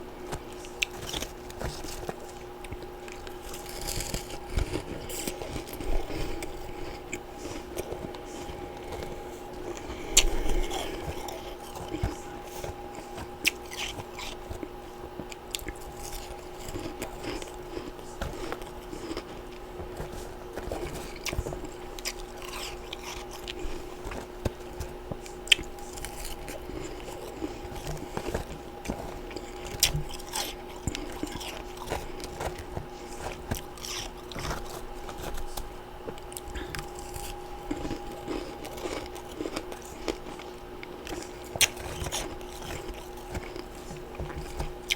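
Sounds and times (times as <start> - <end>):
crunching ice chewing: 0.0 - 44.9
steady low hum: 0.0 - 44.9.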